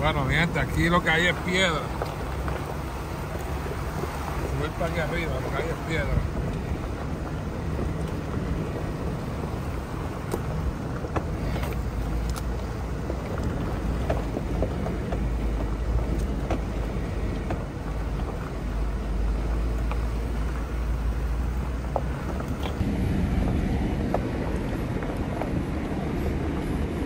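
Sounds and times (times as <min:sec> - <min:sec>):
engine and drivetrain rumble: 0:00.0 - 0:27.0.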